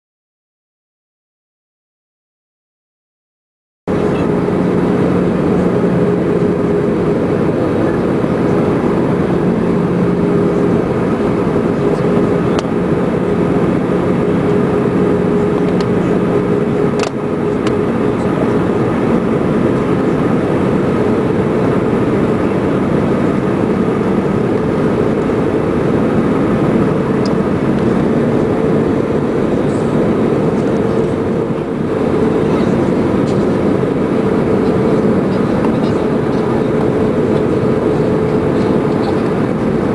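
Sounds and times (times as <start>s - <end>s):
aircraft engine and airflow noise: 3.9s - 39.9s
low hum tones: 3.9s - 39.9s.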